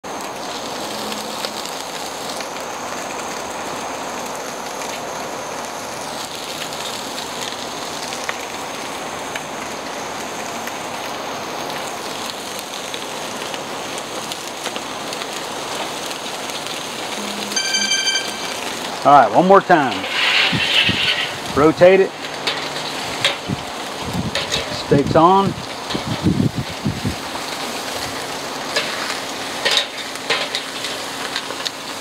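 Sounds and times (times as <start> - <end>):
coals crackling and popping: 0.0 - 32.0
steaks sizzling over charcoal: 0.0 - 32.0.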